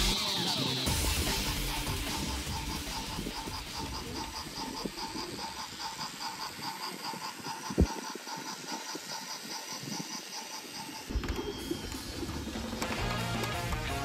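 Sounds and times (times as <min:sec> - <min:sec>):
toy train whirring on track: 0:00.0 - 0:14.0.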